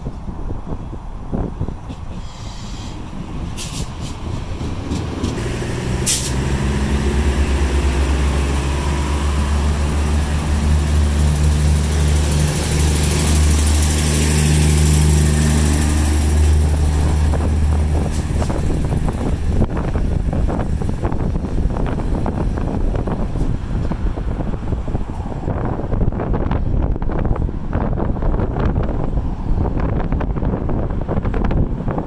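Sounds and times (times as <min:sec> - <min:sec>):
diesel train engines running: 0:00.1 - 0:32.0.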